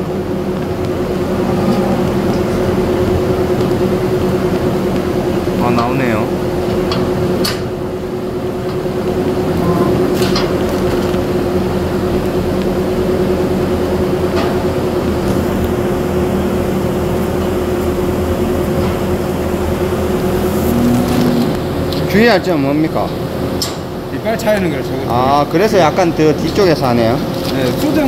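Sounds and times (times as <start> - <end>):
low machine hum: 0.0 - 26.8.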